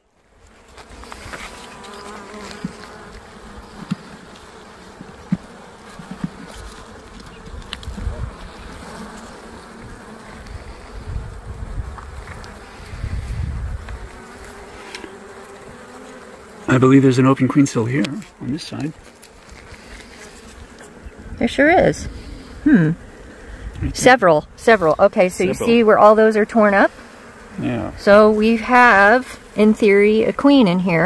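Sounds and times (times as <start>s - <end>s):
bees buzzing: 0.1s - 31.0s.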